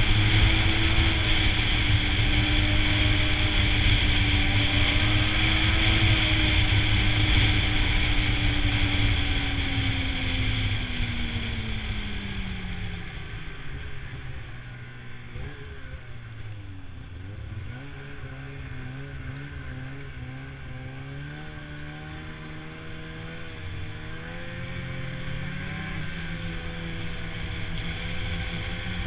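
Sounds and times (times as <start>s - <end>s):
snowmobile engine: 0.0s - 29.0s.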